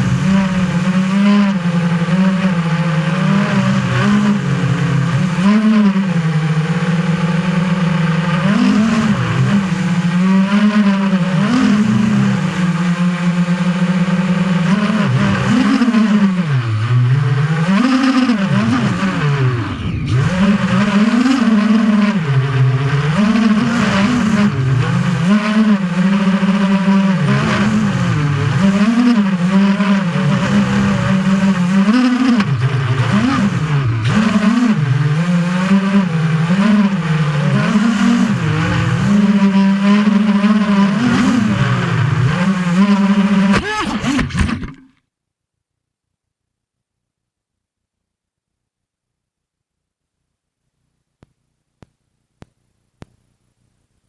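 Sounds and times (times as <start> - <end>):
drone motors and propellers buzzing: 0.0 - 44.9.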